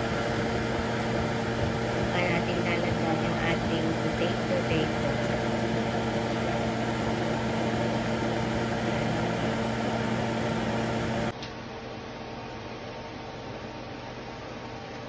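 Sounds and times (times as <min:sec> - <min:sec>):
kitchen fan motor hum: 0:00.0 - 0:15.0.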